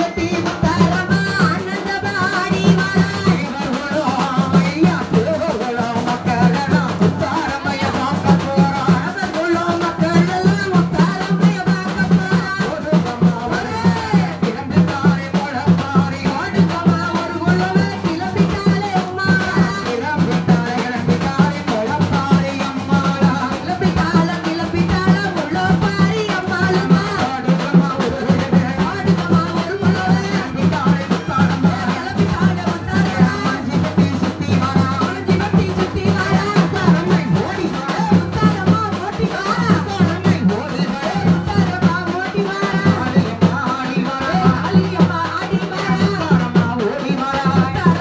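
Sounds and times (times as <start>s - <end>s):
hand drums fast beat: 0.0s - 48.0s
person singing melody: 0.0s - 48.0s.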